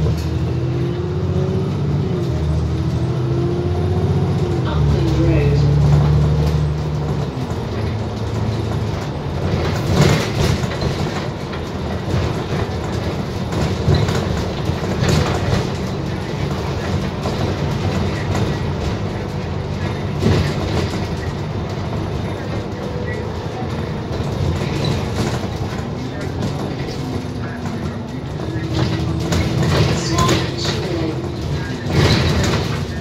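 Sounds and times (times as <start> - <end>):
bus engine and road rumble: 0.0 - 33.0
bus jolting over bumps: 0.0 - 33.0.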